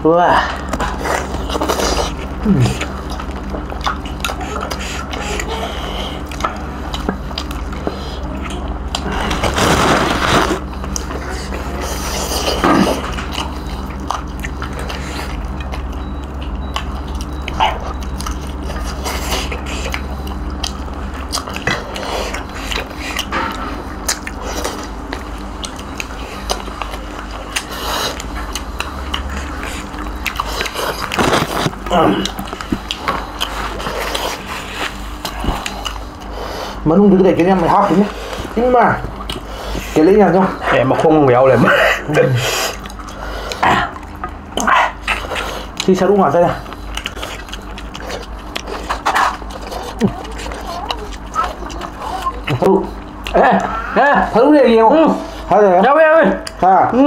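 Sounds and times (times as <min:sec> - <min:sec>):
low hum: 0:00.0 - 0:57.0
people chewing food: 0:00.0 - 0:57.0
wet eating clicks and smacks: 0:00.6 - 0:10.0, 0:10.8 - 0:53.8, 0:56.0 - 0:57.0.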